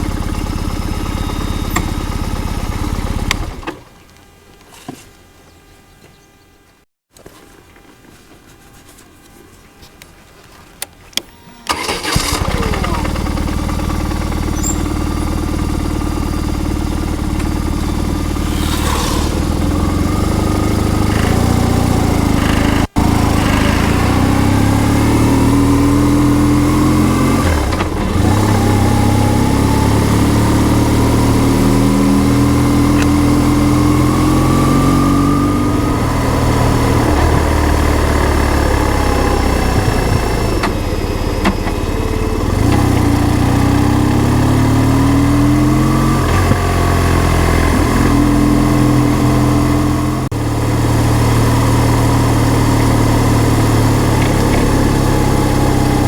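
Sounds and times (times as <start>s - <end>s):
motorcycle engine revving: 0.0s - 3.7s, 11.7s - 56.0s.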